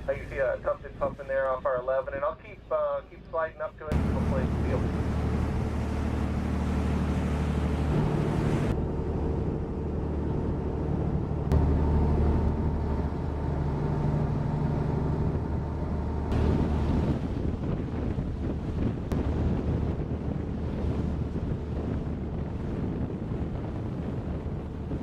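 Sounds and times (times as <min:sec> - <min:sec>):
wind: 0:00.0 - 0:25.0
boat engine running: 0:03.7 - 0:25.0
water noise: 0:03.8 - 0:25.0.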